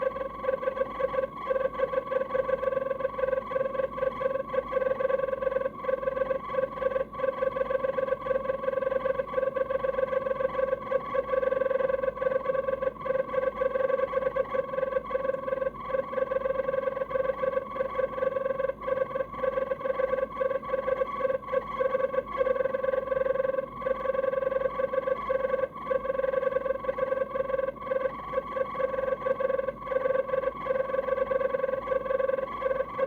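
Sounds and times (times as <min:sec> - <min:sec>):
refrigerator fan motor whine: 0:00.0 - 0:33.0.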